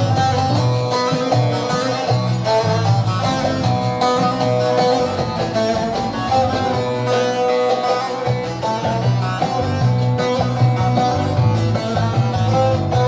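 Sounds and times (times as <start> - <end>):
plucked string instruments melody: 0.0 - 13.0
steady bass line: 0.0 - 13.0.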